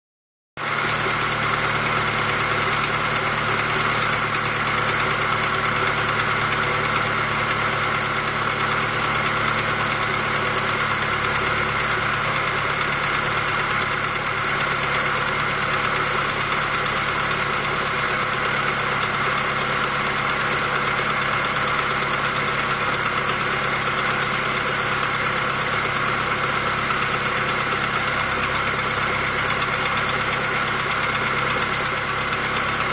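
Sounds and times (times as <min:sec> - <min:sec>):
car engine idling: 0:00.6 - 0:32.9.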